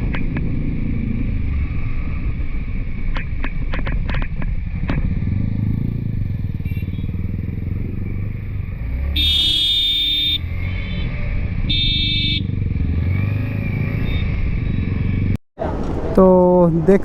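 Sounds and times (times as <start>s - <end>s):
motorcycle engine running: 0.0s - 15.4s
road noise: 0.0s - 17.0s.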